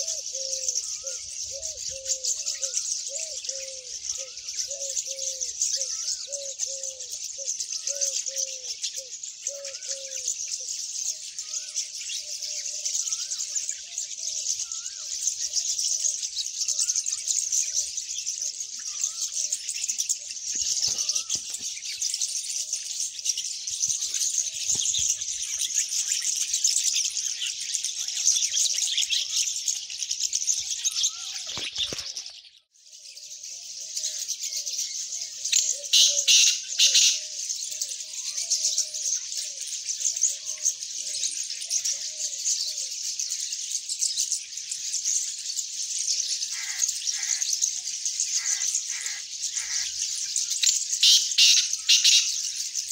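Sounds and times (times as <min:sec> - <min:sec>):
loud sharp bird chirps: 0:00.0 - 0:32.6, 0:33.3 - 0:45.3, 0:46.1 - 0:52.9
birds chirping and calling: 0:00.0 - 0:52.9.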